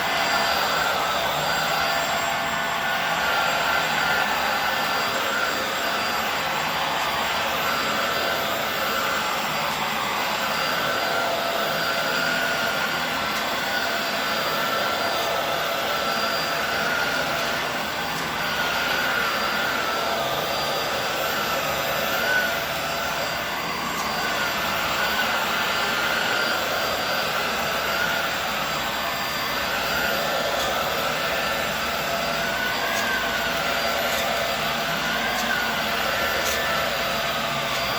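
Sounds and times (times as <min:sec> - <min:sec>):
upright vacuum cleaner running: 0:00.0 - 0:37.9.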